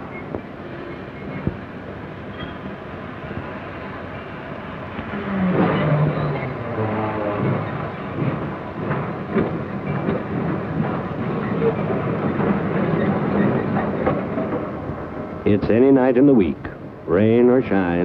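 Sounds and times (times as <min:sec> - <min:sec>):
freight train rolling: 0:00.0 - 0:18.0.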